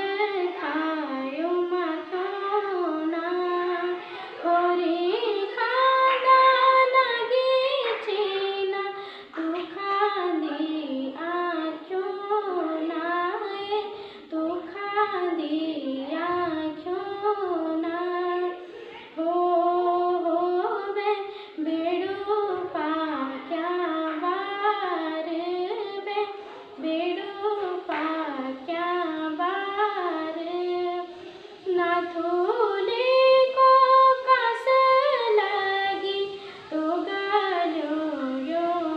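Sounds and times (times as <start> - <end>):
girl singing unaccompanied: 0.0 - 38.9.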